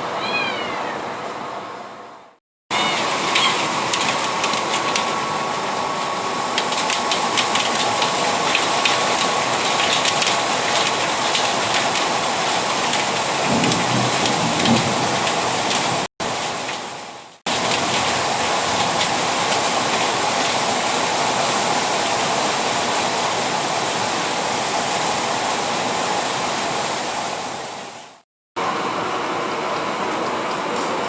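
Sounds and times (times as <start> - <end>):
steady rain: 2.7 - 31.0.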